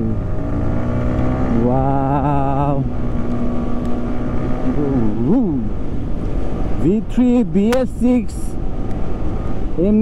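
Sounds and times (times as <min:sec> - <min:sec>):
motorcycle engine droning: 0:00.0 - 0:08.5.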